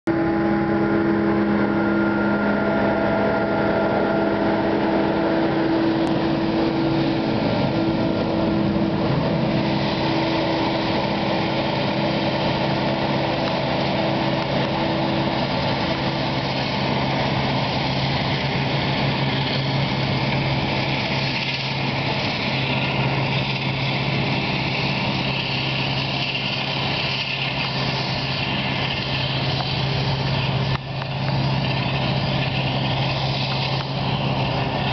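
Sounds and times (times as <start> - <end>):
harvester machinery drone: 0.0 - 34.9
tractor engine hum: 0.0 - 34.9
whining tones: 0.1 - 34.9.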